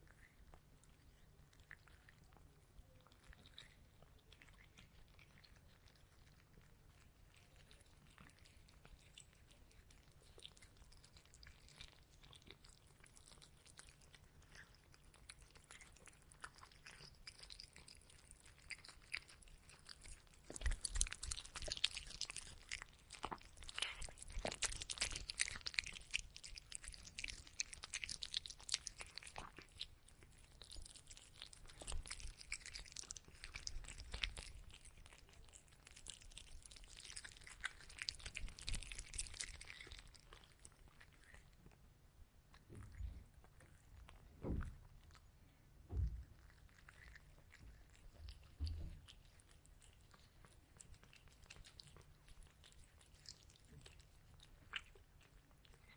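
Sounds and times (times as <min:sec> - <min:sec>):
cat chewing crunchy food: 0:00.0 - 0:55.9.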